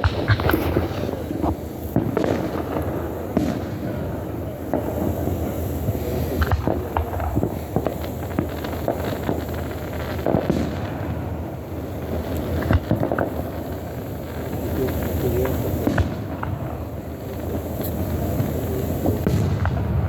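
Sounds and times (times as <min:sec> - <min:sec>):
fireworks booms: 0:00.0 - 0:20.0
fireworks crackling and popping: 0:00.0 - 0:20.0.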